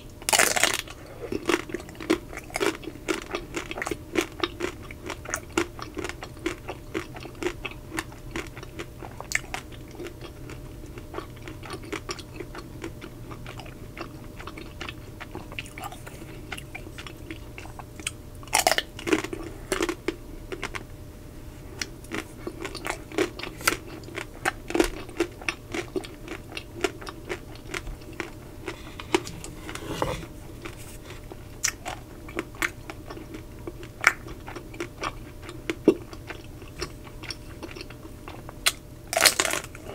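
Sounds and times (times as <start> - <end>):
crunchy chewing of chocolate shell: 0.1 - 20.9, 21.7 - 39.9.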